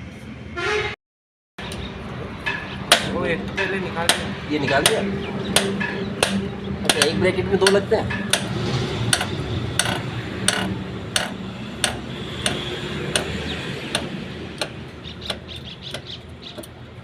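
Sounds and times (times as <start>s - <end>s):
sharp metallic tapping: 1.6s - 16.8s.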